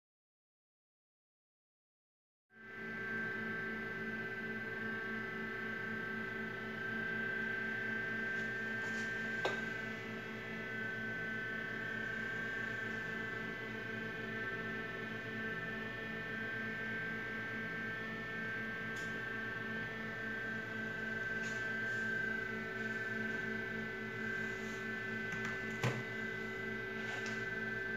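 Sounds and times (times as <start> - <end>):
electrical hum with high whine: 2.6 - 27.9.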